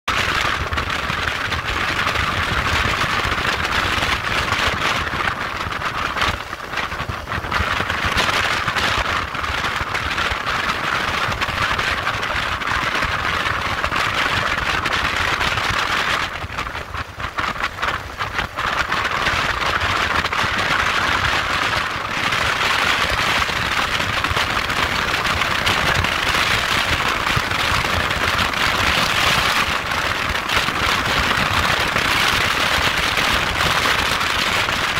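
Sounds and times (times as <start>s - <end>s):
wind rush: 0.0s - 34.9s.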